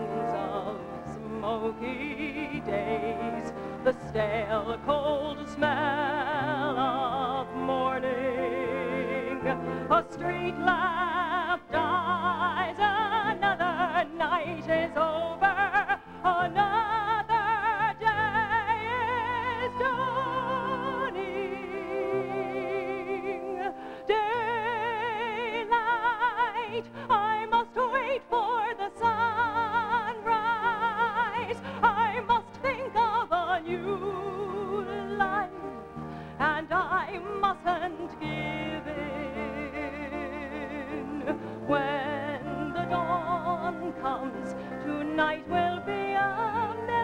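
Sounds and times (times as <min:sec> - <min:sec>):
woman singing with vibrato: 0:00.0 - 0:35.8, 0:36.4 - 0:47.0
orchestral accompaniment: 0:00.0 - 0:47.0.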